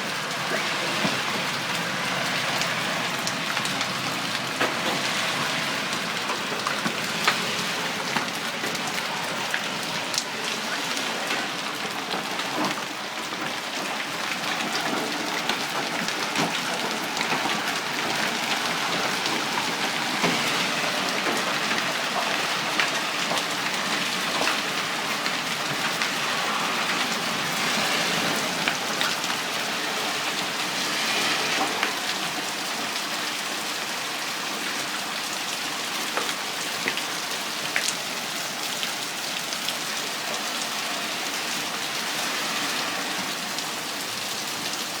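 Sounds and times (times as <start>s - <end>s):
hail and rain pattering: 0.0s - 45.0s.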